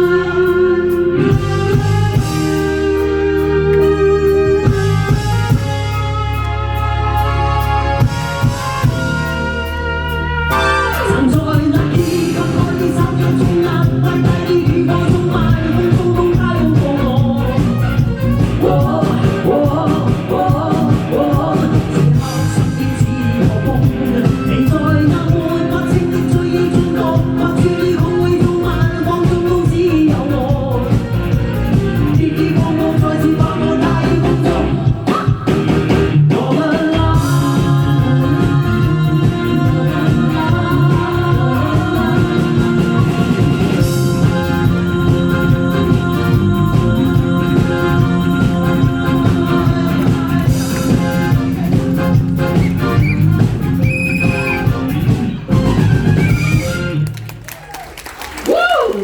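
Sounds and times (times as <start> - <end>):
singer singing: 0.0 - 5.6, 6.4 - 57.0
rock band playing: 0.0 - 57.4.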